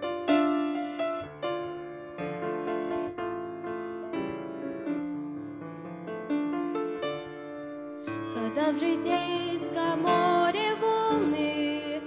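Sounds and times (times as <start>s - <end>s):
grand piano playing: 0.0s - 12.0s.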